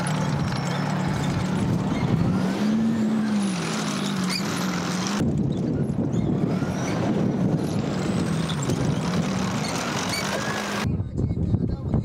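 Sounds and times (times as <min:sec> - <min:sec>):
tank diesel engine running hard: 0:00.0 - 0:10.9.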